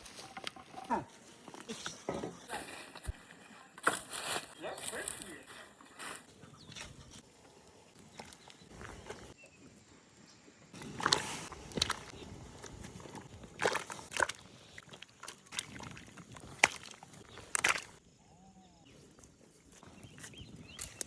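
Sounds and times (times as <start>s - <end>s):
low outdoor background: 0.0s - 21.0s.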